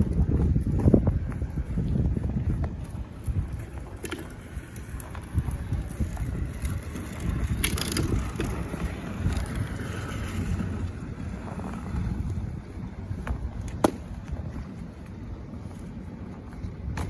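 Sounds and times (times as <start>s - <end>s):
cooler wheels rolling on ice: 0.0s - 17.0s.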